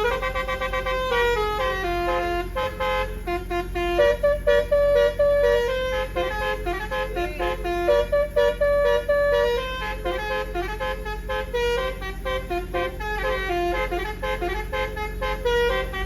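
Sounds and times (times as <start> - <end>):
bus engine humming: 0.0 - 16.0
musical bus horn melody: 0.0 - 16.0.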